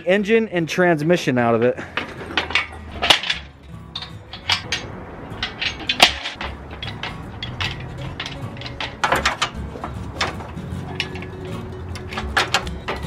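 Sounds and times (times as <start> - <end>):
metal clanks from engine hoist: 1.6 - 13.0.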